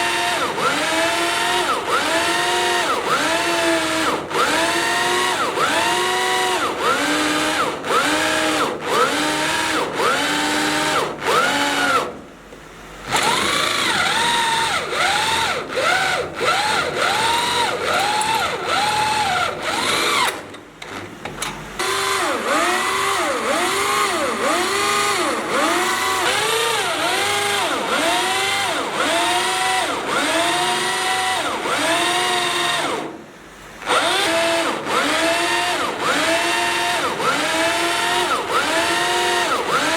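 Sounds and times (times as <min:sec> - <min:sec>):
power drill boring into steel: 0:00.0 - 0:12.1, 0:13.1 - 0:20.6, 0:21.8 - 0:33.1, 0:33.8 - 0:39.9.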